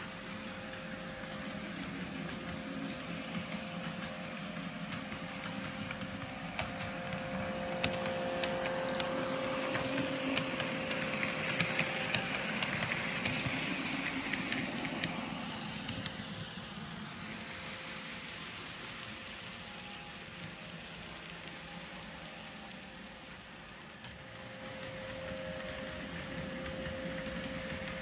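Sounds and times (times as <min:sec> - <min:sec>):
model train motor hum: 0:00.0 - 0:28.0.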